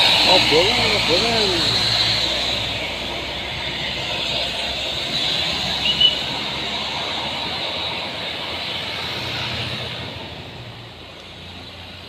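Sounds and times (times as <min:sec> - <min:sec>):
bus engine hum: 0:00.0 - 0:12.0
van engine and tyres passing: 0:00.0 - 0:12.0.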